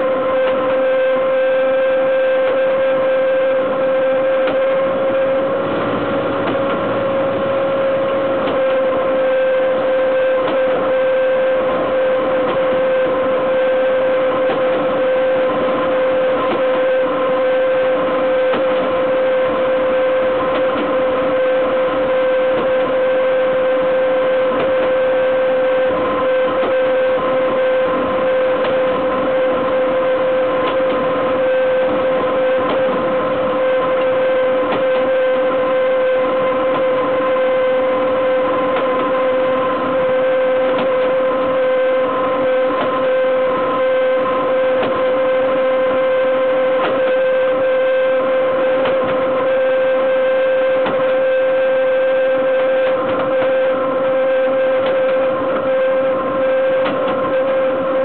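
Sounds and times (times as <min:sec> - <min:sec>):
high steady whine: 0:00.0 - 0:58.0.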